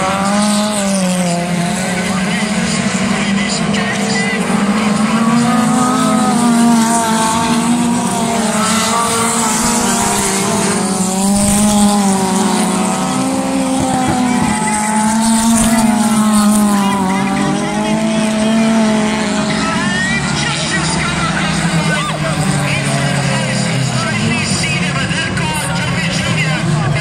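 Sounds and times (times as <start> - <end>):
race car engines accelerating: 0.0 - 27.0.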